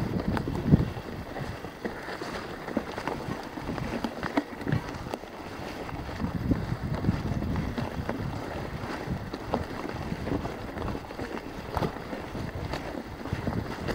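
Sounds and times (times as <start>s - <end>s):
bike knocking and rattling: 0.0s - 13.9s
tyres crunching on dirt trail: 0.0s - 13.9s
wind noise on microphone: 0.0s - 13.9s.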